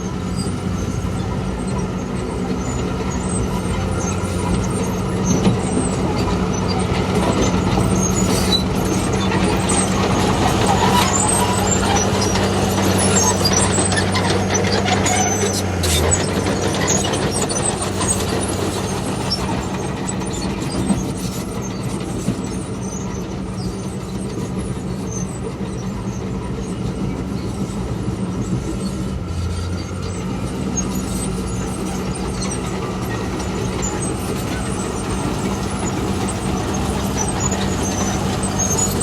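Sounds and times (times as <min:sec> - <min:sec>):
diesel machinery rumbling: 0:00.0 - 0:39.0.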